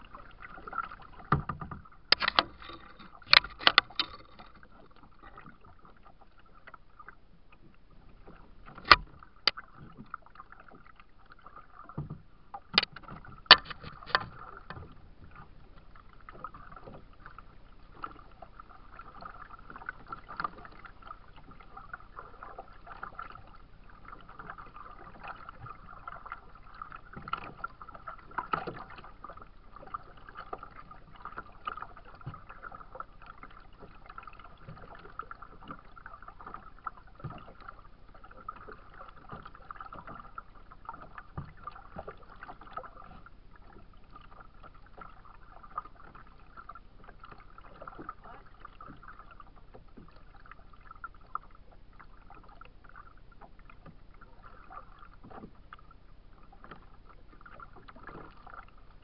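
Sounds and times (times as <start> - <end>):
waves lapping against kayak hull: 0.0 - 59.0.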